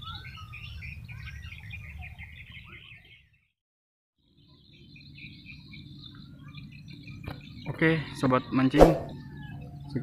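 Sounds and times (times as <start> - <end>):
small birds chirping: 0.0 - 3.5, 4.2 - 10.0.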